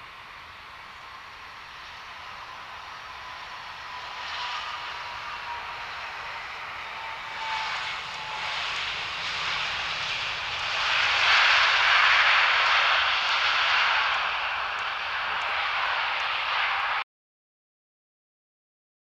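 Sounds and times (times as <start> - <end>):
faint jet whine: 0.0 - 17.0
jet engines rushing: 0.0 - 17.0.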